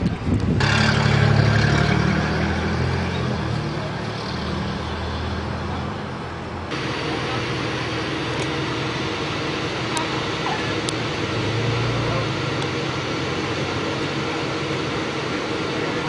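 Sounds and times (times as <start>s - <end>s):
traffic noise: 0.0s - 16.0s
vehicle engine rumble: 0.0s - 16.0s.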